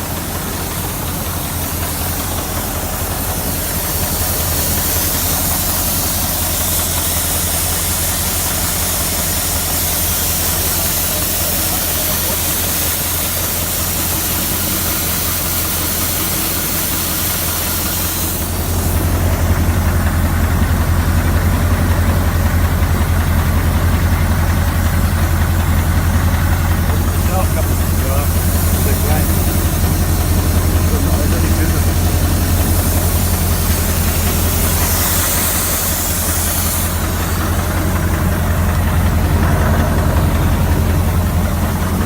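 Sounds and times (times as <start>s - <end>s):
high hiss: 0.0s - 20.1s, 26.3s - 42.0s
truck diesel engine idling: 0.0s - 42.0s.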